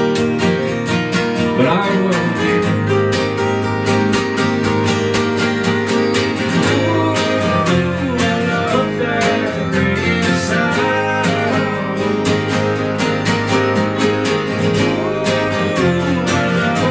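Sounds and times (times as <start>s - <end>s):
acoustic guitars strumming: 0.0s - 16.9s
bass guitar: 0.0s - 16.9s
gliding melodic line: 1.4s - 16.9s.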